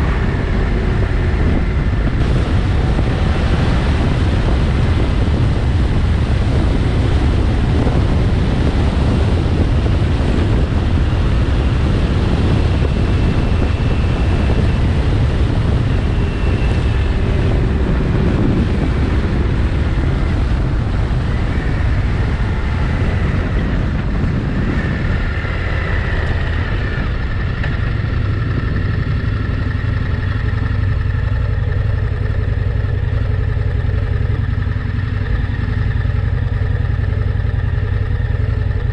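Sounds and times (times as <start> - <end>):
motorcycle engine: 0.0 - 38.9
wind buffeting microphone: 0.0 - 38.9.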